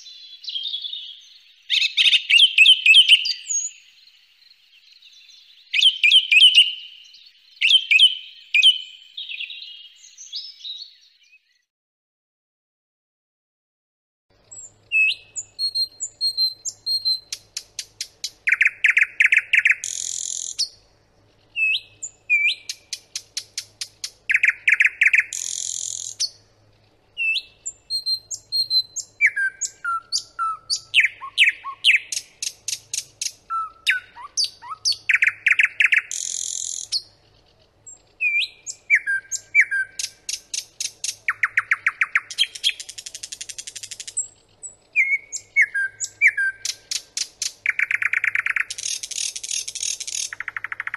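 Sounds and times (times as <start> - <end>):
nightingale singing: 0.0 - 11.7, 14.3 - 50.9.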